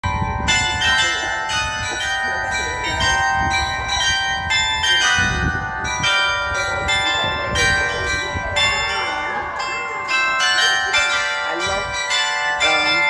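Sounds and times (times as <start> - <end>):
tower bells change-ringing: 0.0 - 13.0.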